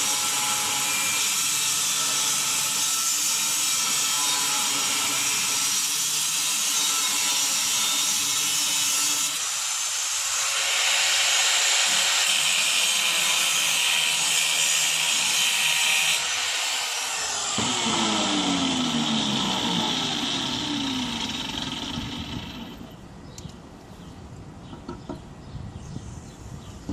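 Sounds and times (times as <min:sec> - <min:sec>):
angle grinder cutting steel: 0:00.0 - 0:23.0.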